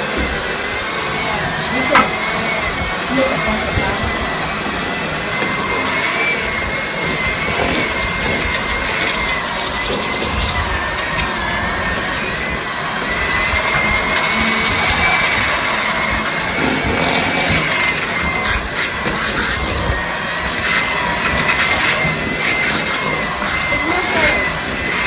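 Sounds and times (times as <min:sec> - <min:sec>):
electric mixer whining: 0:00.0 - 0:25.0.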